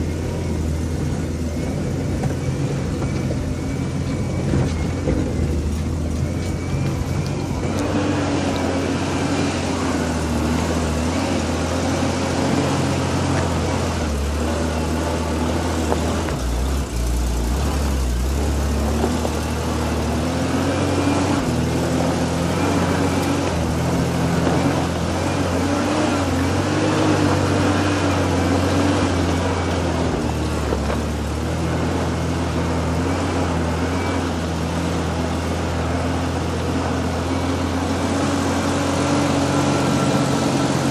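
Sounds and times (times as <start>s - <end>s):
vehicle engine under load: 0.0s - 40.9s.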